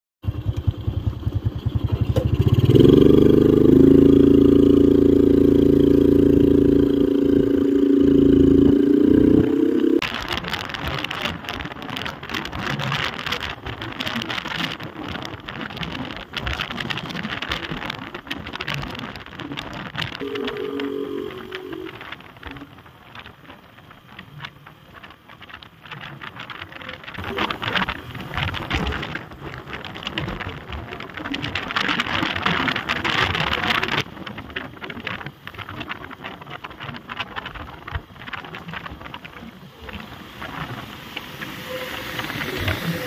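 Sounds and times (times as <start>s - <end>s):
tyre and road noise: 0.2s - 43.0s
wind on microphone: 2.3s - 43.0s.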